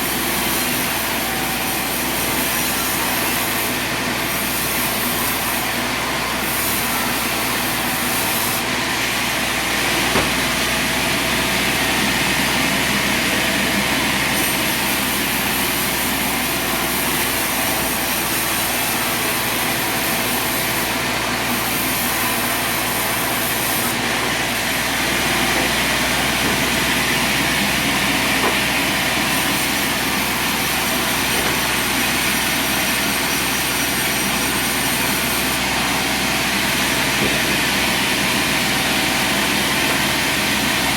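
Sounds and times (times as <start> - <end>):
sawmill cutting wood: 0.0 - 40.9.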